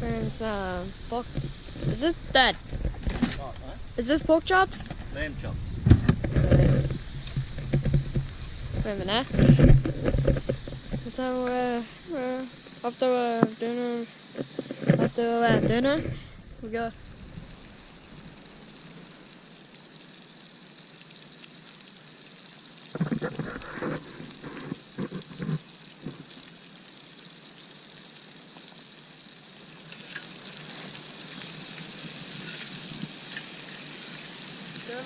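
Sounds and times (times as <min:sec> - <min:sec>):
meat sizzling over fire: 0:00.0 - 0:35.0.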